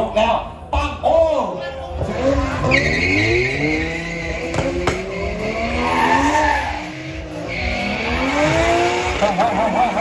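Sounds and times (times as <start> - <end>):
drag car engines revving: 1.6 - 10.0.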